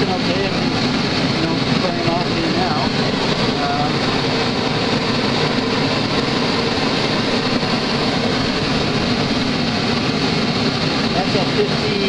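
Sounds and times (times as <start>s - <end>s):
gas burner flame rushing: 0.0s - 12.0s.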